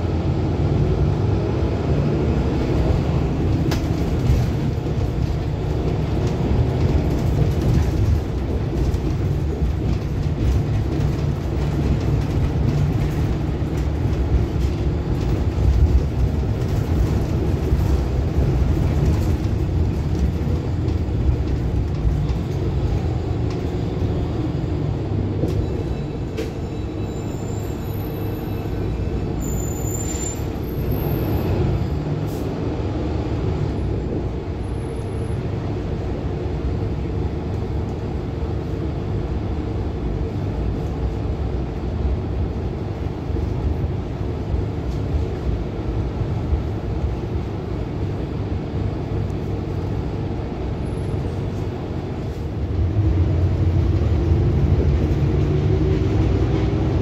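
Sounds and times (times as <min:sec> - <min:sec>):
bus interior running noise: 0:00.0 - 0:57.0
road noise: 0:00.0 - 0:57.0.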